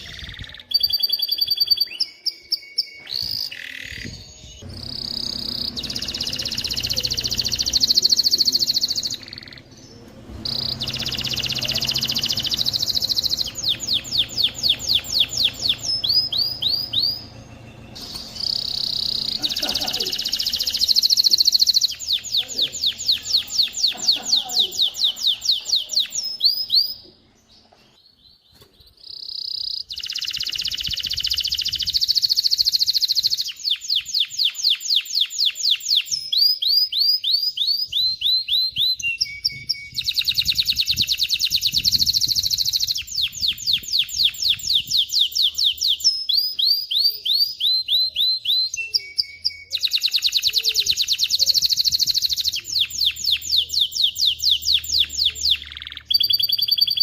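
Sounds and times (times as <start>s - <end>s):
canary trilling: 0.0s - 27.6s, 29.0s - 57.0s.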